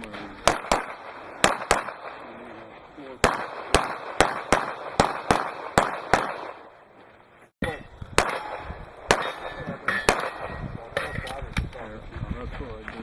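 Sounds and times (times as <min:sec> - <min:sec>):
pistol shots with echo: 0:00.1 - 0:07.0, 0:07.6 - 0:12.0.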